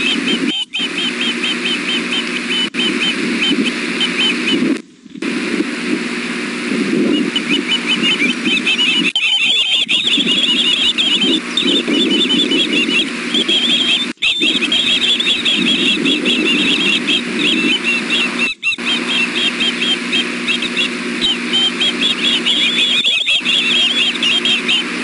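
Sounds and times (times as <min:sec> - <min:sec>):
young birds chirping whistles: 0:00.0 - 0:04.7, 0:07.1 - 0:25.0
steady low hum: 0:00.0 - 0:25.0.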